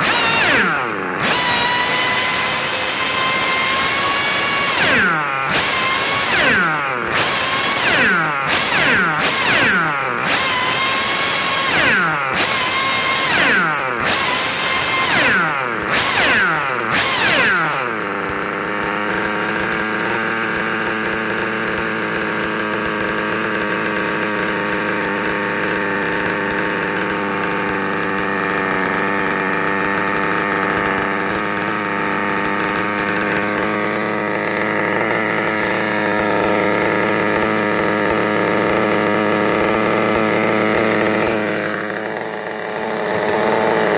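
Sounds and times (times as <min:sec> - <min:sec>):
small engine revving: 0:00.0 - 0:43.9.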